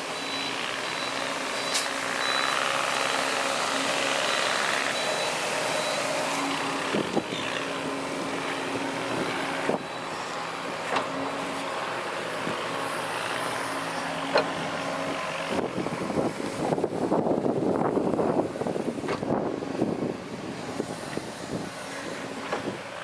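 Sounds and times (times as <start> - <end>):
diesel machinery running: 0.0 - 23.0.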